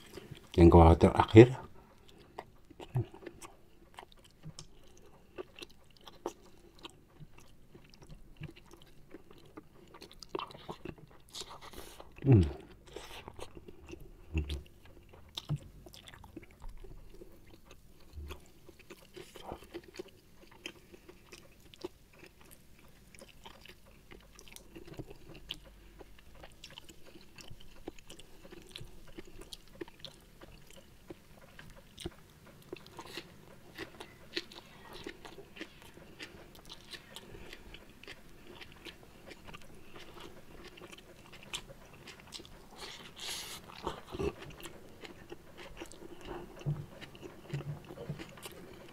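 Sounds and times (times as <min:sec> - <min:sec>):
man chewing food: 0:00.0 - 0:48.9.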